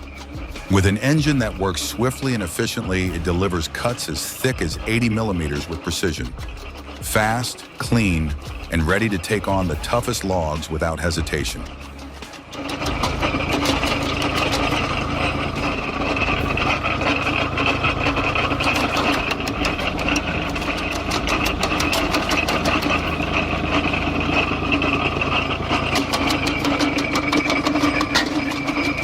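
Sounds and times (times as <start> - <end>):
firewood machine engine running: 0.0 - 29.0.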